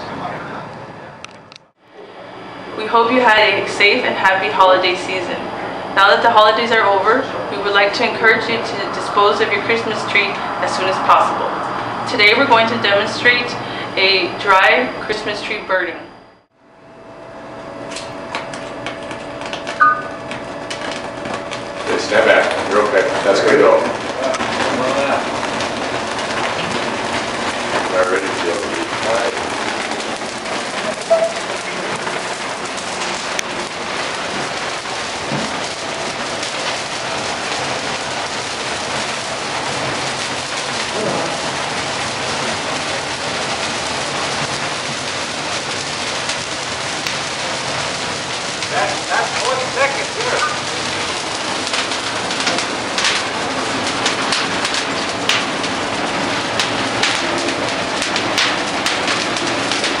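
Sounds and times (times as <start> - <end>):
fire crackling and rushing: 1.6 - 16.6, 17.3 - 60.0.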